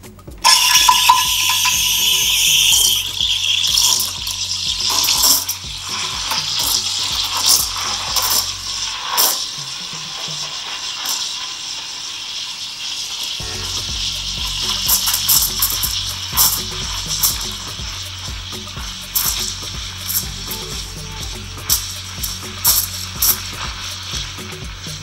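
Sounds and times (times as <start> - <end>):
low hum: 0.0 - 9.0, 13.4 - 25.0
steam wand hissing into milk: 0.4 - 25.0.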